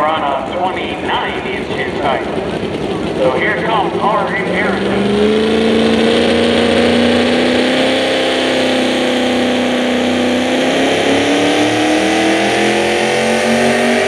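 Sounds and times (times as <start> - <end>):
truck engine revving under load: 0.0 - 14.0.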